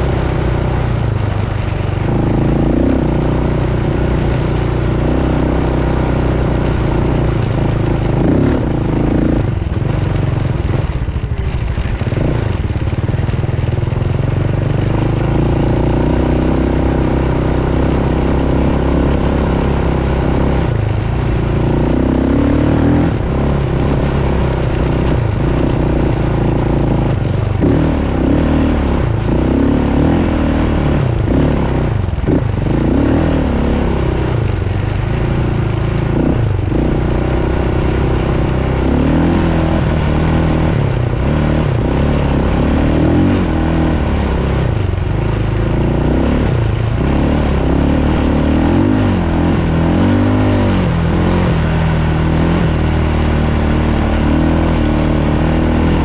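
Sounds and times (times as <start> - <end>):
off-road vehicle engine running: 0.0 - 56.0
steady rushing noise: 0.0 - 56.0.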